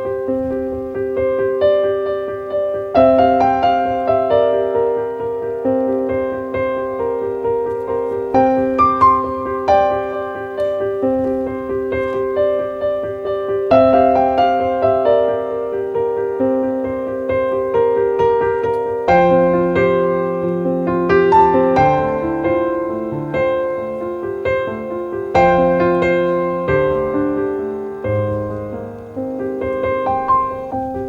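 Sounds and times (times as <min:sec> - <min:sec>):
soft piano music: 0:00.0 - 0:31.0.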